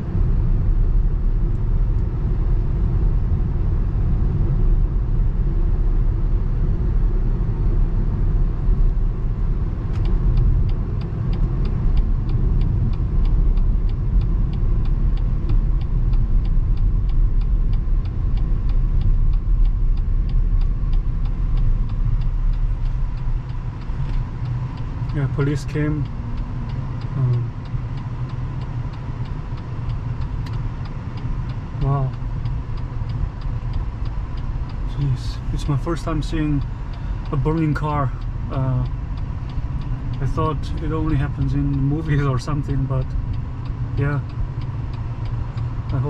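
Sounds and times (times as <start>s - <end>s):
car cabin road rumble: 0.0s - 46.0s
turn signal ticking: 0.0s - 46.0s.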